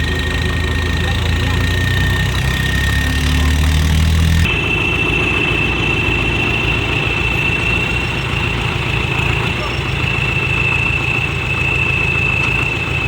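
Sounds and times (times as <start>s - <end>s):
steady high whine: 0.0s - 13.0s
tractor diesel engine running: 0.0s - 13.0s.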